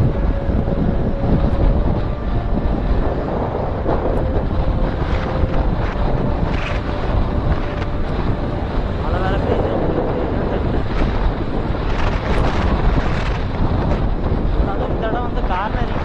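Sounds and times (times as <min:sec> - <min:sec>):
faint motorcycle engine hum: 0:00.0 - 0:16.0
wind buffeting microphone: 0:00.0 - 0:16.0.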